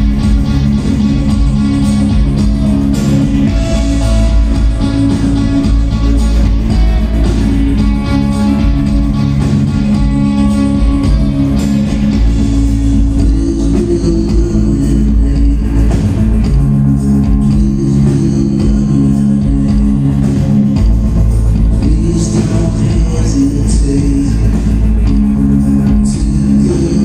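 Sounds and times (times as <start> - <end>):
droning guitar chords: 0.0 - 27.0
rock band playing live: 0.0 - 27.0.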